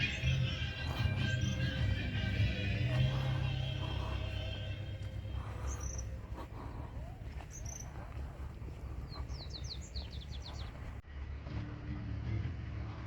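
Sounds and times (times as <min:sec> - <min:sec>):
bird chirp: 0:00.0 - 0:11.0.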